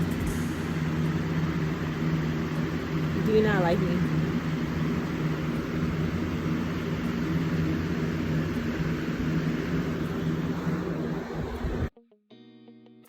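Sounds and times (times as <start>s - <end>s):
mechanical hum with rushing noise: 0.0s - 11.9s.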